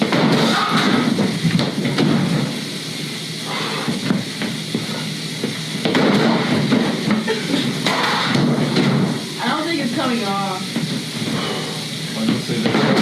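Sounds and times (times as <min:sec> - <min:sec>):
steady noisy background: 0:00.0 - 0:13.0.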